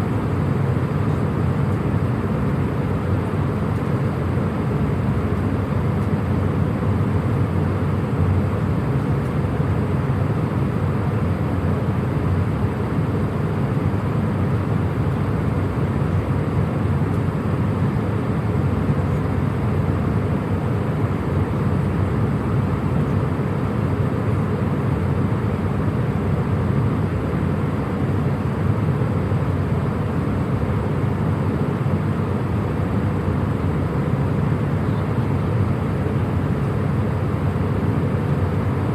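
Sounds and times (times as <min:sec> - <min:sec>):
jet cabin engine rumble: 0:00.0 - 0:38.9.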